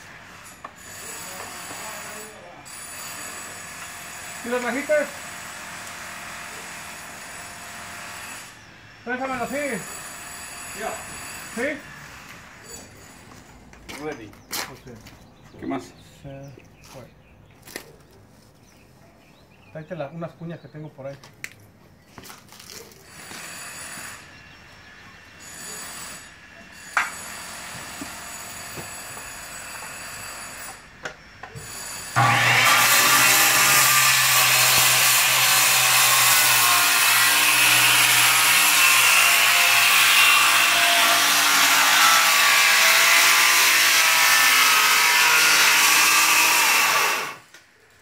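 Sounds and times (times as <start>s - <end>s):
power saw cutting wood: 0.0s - 14.1s, 23.0s - 47.6s.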